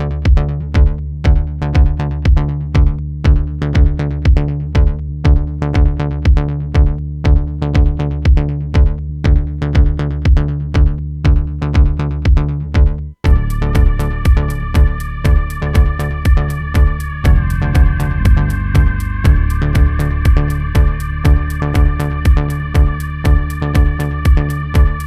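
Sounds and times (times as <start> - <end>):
electronic music with drum beat: 0.2 - 25.0.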